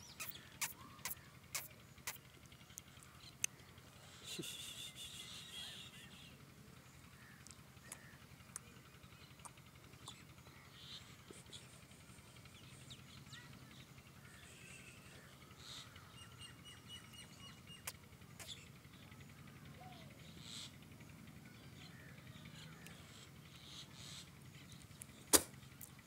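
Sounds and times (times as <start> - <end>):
faint bird chirps: 0.0 - 25.4.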